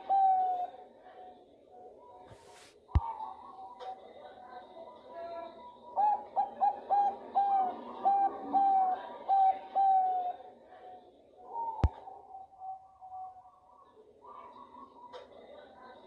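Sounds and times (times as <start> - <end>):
dove cooing: 0.0 - 2.2, 3.0 - 16.0.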